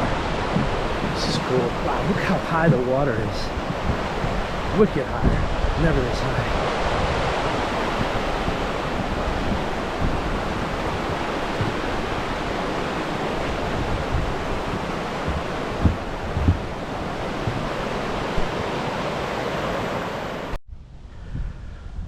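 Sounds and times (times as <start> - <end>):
wind bumps on microphone: 0.0 - 18.9, 20.7 - 22.0
waterfall rushing: 0.0 - 20.5.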